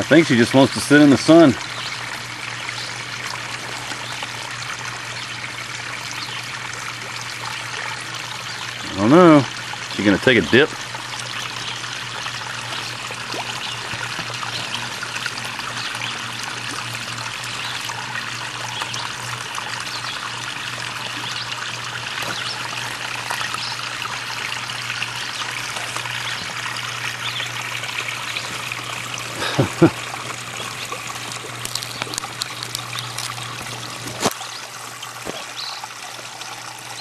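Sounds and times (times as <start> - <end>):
water trickling into pond: 0.0 - 37.0.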